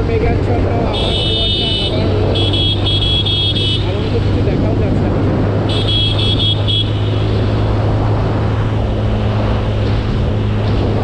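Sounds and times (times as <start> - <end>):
motorcycle engine drone: 0.0 - 11.0
rushing wind: 0.0 - 11.0.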